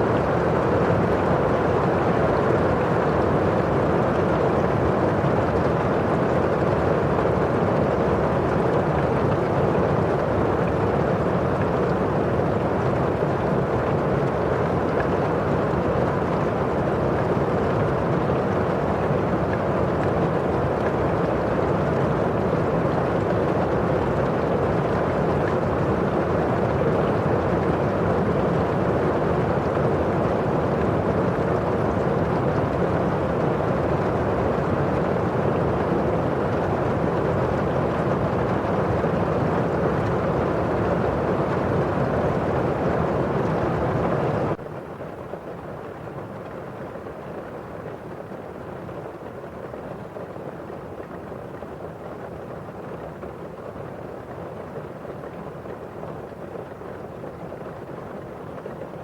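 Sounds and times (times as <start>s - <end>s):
rain on a windowpane: 0.0s - 59.0s.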